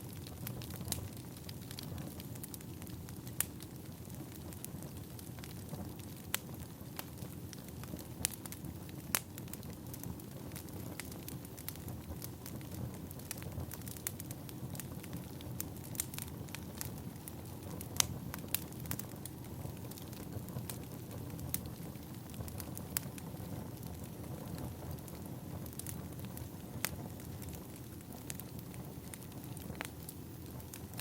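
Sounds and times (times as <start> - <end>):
firewood crackling and popping: 0.0 - 31.0
low rumble of flames: 0.0 - 31.0.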